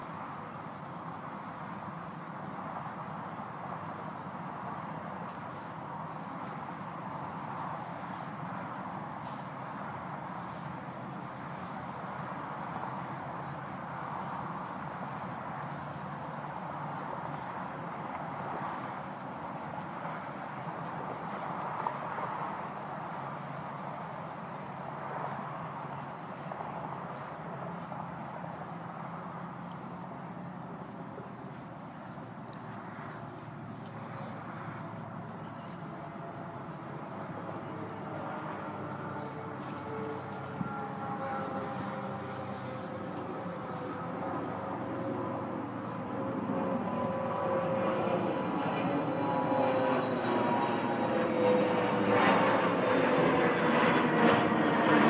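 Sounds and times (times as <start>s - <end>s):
faint high-pitched whine: 0.0s - 55.0s
steady rushing outdoor noise: 0.0s - 55.0s.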